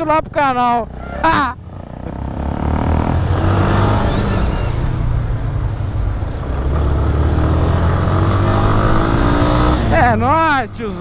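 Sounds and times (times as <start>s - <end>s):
road noise: 0.0s - 11.0s
motorcycle engine pulling away: 0.9s - 10.2s.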